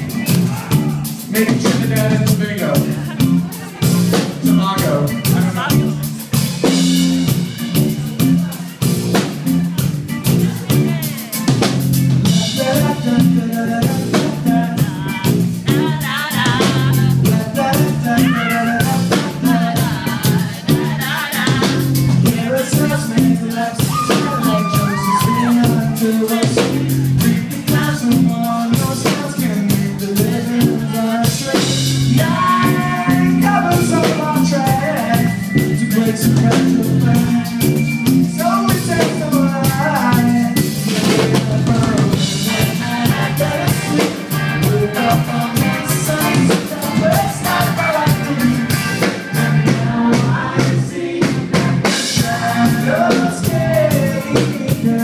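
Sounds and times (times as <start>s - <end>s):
busy drum kit: 0.0s - 55.0s
low bass notes: 0.0s - 55.0s
person singing: 0.0s - 55.0s.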